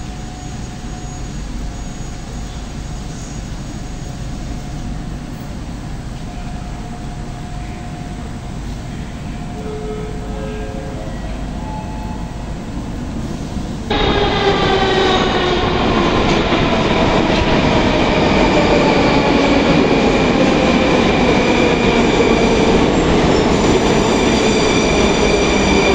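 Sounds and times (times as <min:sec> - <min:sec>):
metro train whining: 0:00.0 - 0:25.9
station hall noise: 0:00.0 - 0:25.9.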